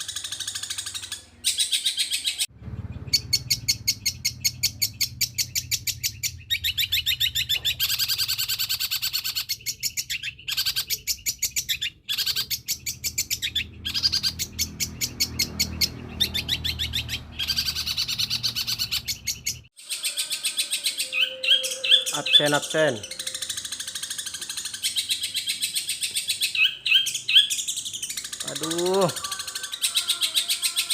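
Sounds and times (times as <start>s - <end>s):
bird singing rapid high chirps: 0.0s - 30.9s.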